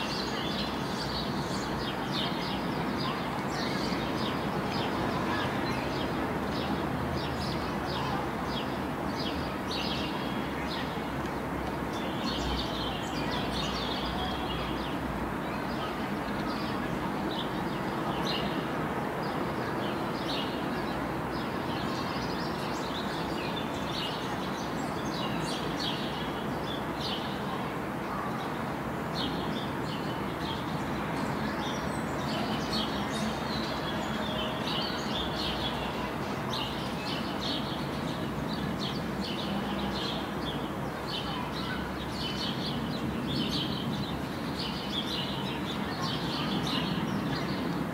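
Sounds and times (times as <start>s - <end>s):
outdoor background noise: 0.0s - 47.9s.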